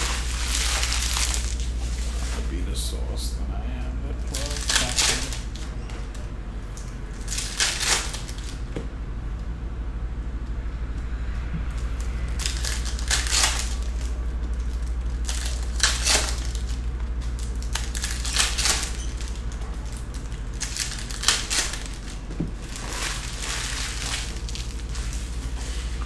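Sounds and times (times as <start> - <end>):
foil wrappers crinkling and tearing: 0.0 - 2.9, 4.1 - 6.2, 6.8 - 8.6, 11.8 - 26.0
steady low hum: 0.0 - 26.0.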